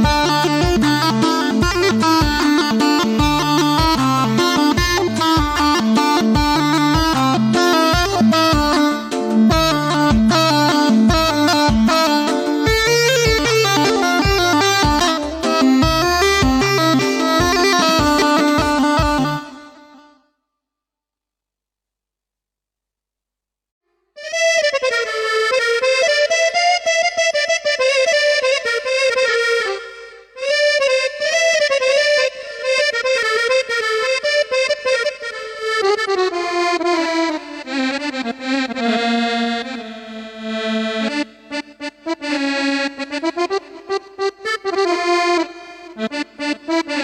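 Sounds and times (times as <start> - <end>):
keyboard playing reedy folk melody: 0.0 - 20.3, 24.2 - 47.0.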